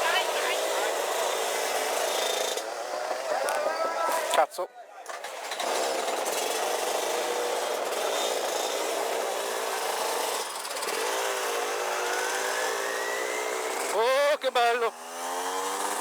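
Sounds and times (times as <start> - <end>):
kart engine running hard: 0.0 - 16.0.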